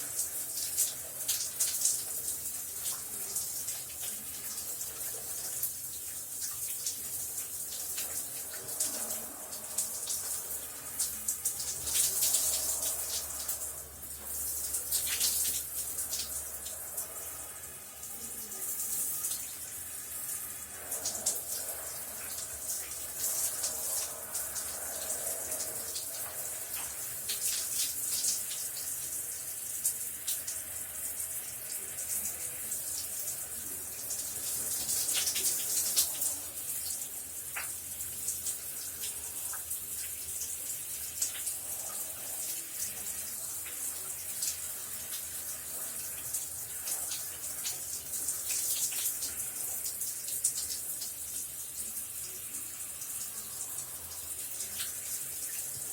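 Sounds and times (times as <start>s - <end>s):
shower water spraying: 0.0s - 55.9s.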